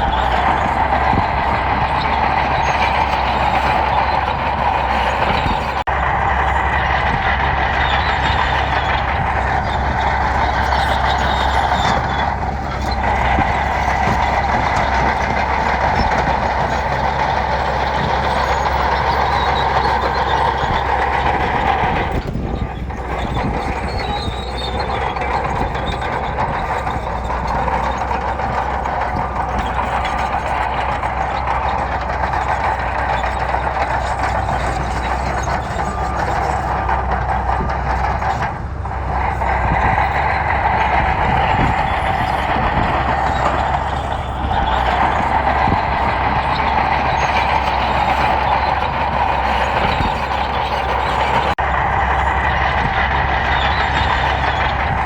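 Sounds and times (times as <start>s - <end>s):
bulldozer diesel engine under load: 0.0s - 55.0s
steel tracks grinding: 0.0s - 55.0s.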